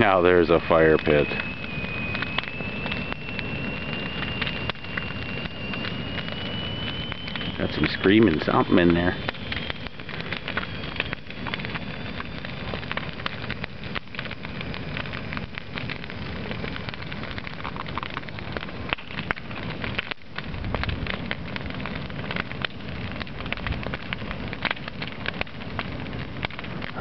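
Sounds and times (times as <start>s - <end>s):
bonfire crackling and popping: 0.0s - 27.0s
low fire rumble: 0.0s - 27.0s.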